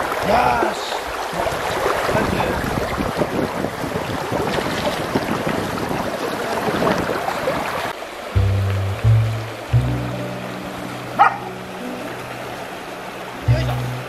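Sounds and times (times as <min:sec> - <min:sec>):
water gurgling: 0:00.0 - 0:14.0.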